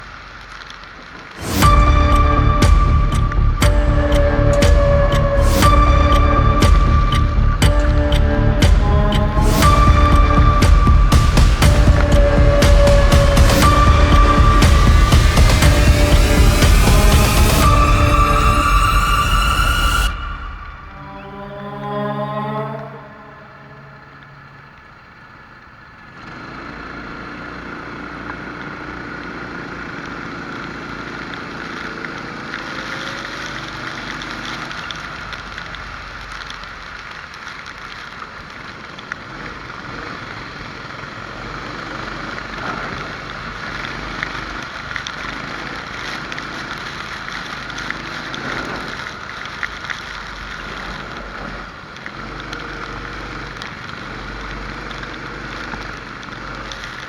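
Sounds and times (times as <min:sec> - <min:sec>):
tyres hissing on wet track: 0:00.0 - 0:57.0
kart engine running: 0:01.2 - 0:19.8, 0:24.0 - 0:57.0.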